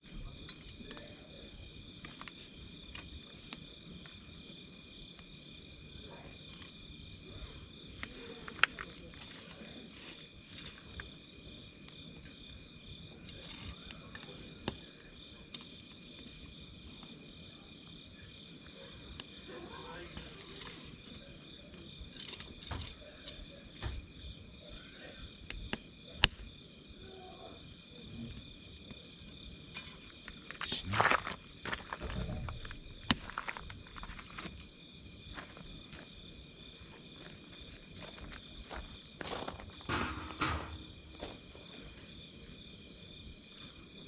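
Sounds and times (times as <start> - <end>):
campfire crackling and popping: 0.0 - 27.1, 28.3 - 44.0
insects chirring: 0.0 - 44.0.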